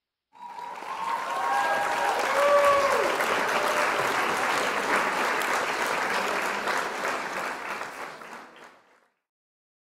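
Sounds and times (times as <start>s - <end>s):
audience applauding: 0.4s - 9.2s.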